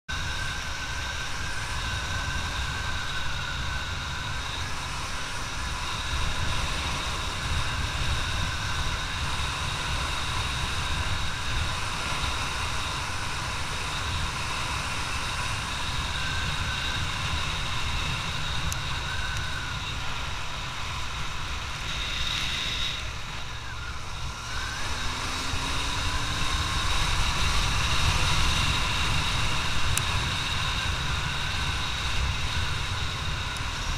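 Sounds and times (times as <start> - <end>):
motorcycle engine running: 0.1 - 33.9
wind rumble on microphone: 0.1 - 33.9.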